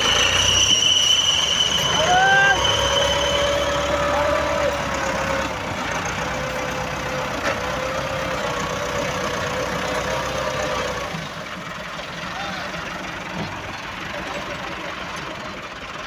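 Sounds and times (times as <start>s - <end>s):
tractor diesel engine whining: 0.0s - 16.0s.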